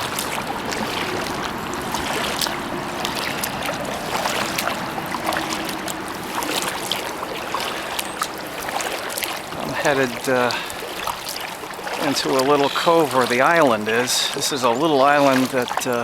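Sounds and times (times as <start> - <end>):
small splashes: 0.0 - 16.0
water dripping from paddle: 0.0 - 16.0
water moving along hull: 0.0 - 16.0.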